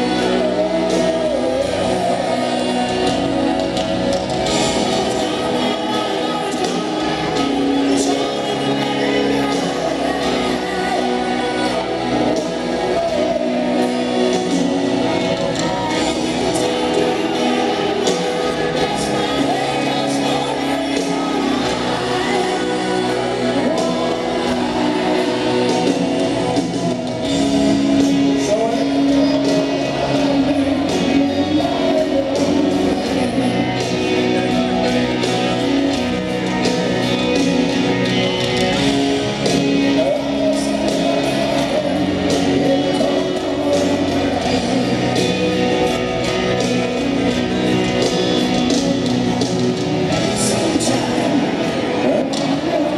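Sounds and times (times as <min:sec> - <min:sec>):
man singing: 0:00.0 - 0:52.9
rock band playing piano ballad: 0:00.0 - 0:52.9.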